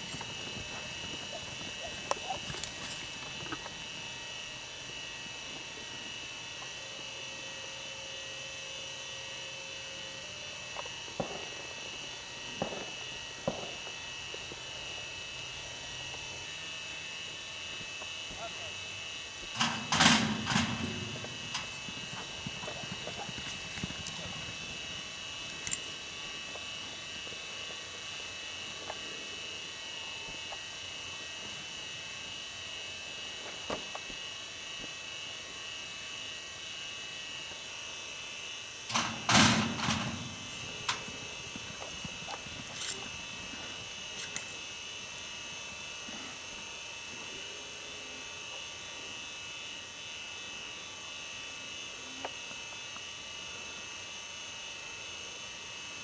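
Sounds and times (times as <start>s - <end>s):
high whine and hiss: 0.0s - 56.0s.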